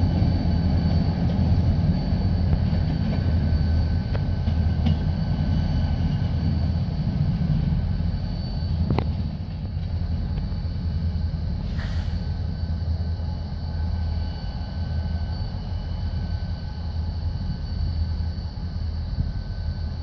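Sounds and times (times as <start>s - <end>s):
freight train rumbling: 0.0s - 20.0s.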